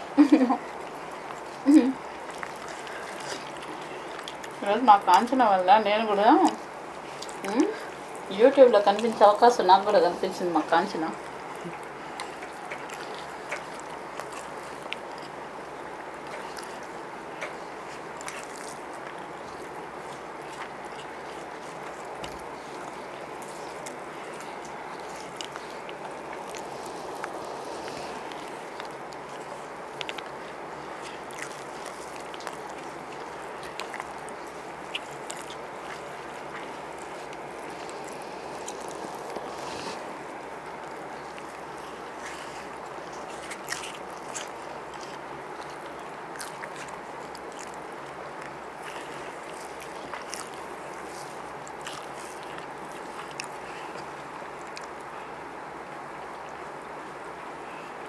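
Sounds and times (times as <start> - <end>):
chewing clicks: 0.0 - 5.5, 6.3 - 55.3
rice squishing by hand: 0.0 - 58.0
steady background hiss: 0.0 - 58.0.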